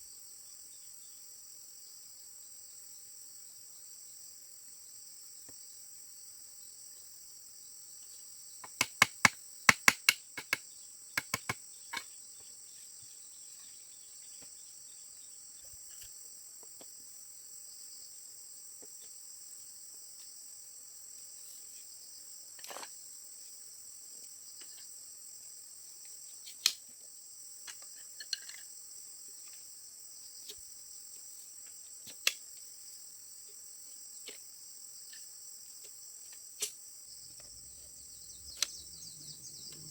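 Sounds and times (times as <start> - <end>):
insects chirring: 3.0 - 39.9.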